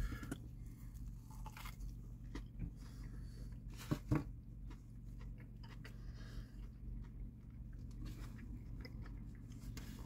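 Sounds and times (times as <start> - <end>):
man chewing: 0.0 - 10.0.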